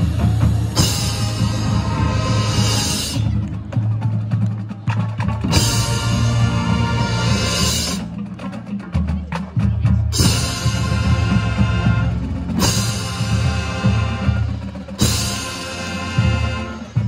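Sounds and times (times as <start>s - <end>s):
marching band playing: 0.0s - 17.0s.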